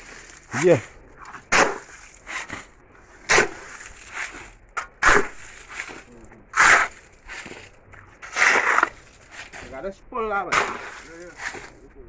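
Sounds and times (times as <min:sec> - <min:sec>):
digging tool scraping dirt and gravel: 0:00.0 - 0:11.9.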